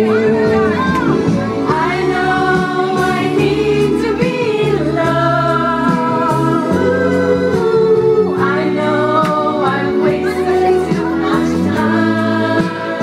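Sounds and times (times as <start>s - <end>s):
backing track music: 0.0s - 13.0s
women singing together: 0.0s - 13.0s.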